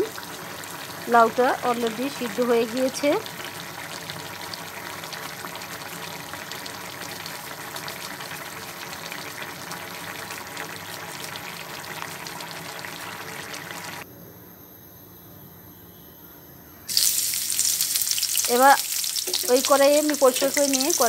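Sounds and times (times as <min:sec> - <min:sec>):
liquid boiling in a pan: 0:00.0 - 0:14.0, 0:16.9 - 0:21.0.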